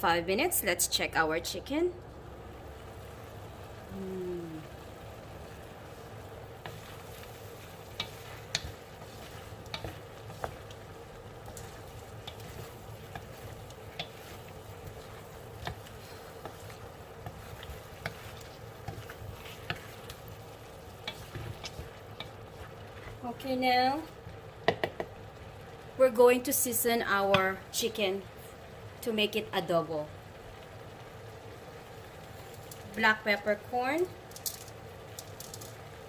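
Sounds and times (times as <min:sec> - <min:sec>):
chicken wings sizzling in pan: 0:00.0 - 0:36.0.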